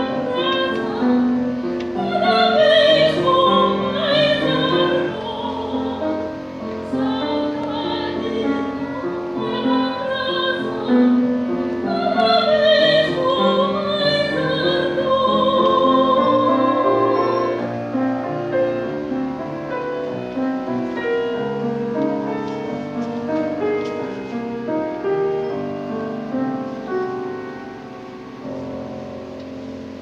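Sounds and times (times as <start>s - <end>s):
piano playing: 0.0s - 30.0s.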